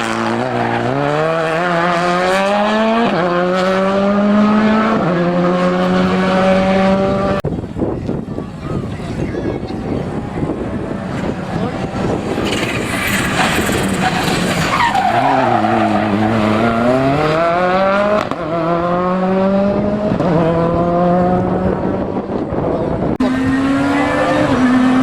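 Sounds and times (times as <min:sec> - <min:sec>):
rally car engine revving: 0:00.0 - 0:07.4, 0:09.8 - 0:25.0.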